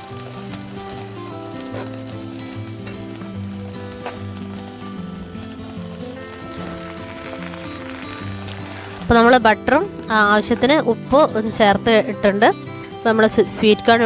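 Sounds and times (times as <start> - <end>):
corn sizzling in butter: 0.0 - 14.0
soft background music: 0.0 - 14.0.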